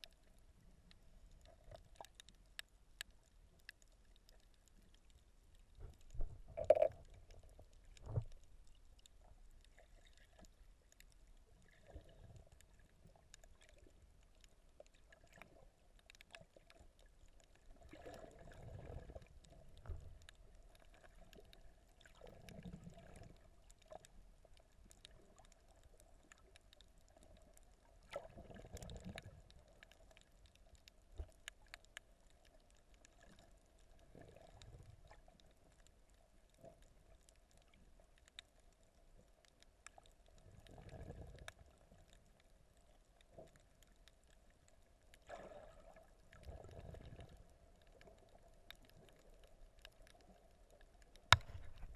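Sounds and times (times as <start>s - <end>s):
underwater gurgling and sloshing: 0.0s - 51.9s.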